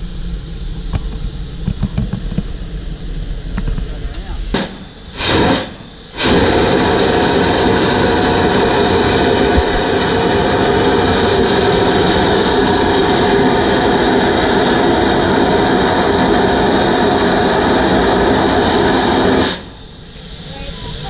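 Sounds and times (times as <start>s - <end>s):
steam hissing from locomotive: 0.0s - 21.0s.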